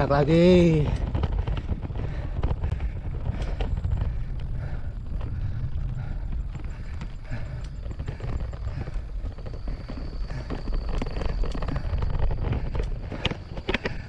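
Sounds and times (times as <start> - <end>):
wind rumble on microphone: 0.0 - 14.0
heavy breathing: 0.8 - 14.0.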